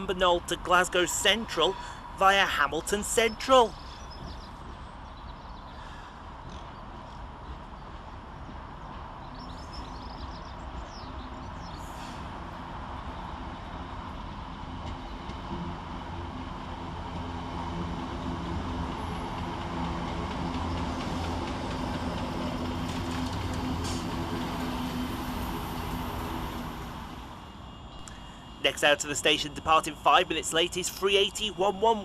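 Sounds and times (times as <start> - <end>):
electric train hum and wheel rumble: 3.0 - 32.0.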